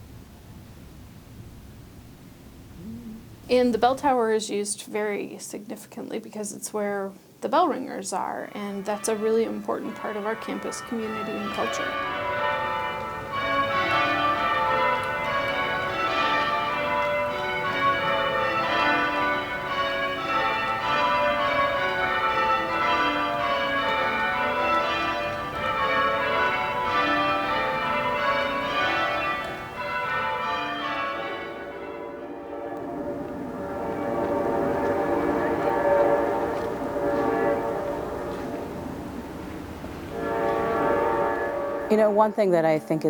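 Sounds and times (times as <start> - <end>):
tower bells ringing: 8.2 - 43.0.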